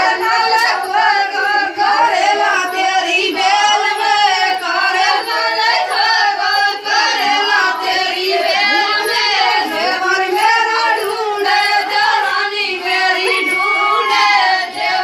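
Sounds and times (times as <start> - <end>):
person singing folk song: 0.0 - 15.0.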